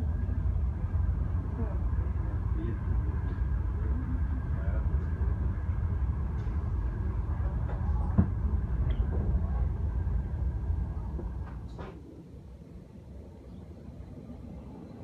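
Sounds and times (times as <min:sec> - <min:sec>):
train wheels rumbling on track: 0:00.0 - 0:12.2.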